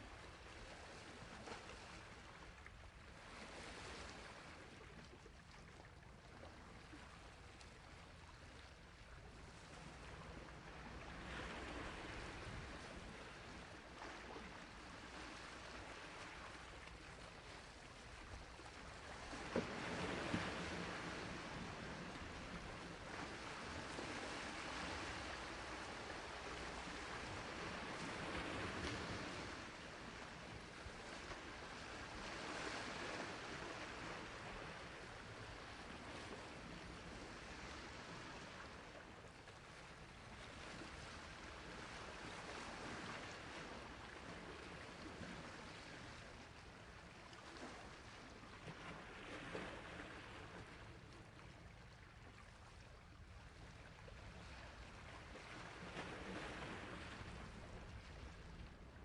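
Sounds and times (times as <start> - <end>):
sea waves washing on shore: 9.5 - 59.0.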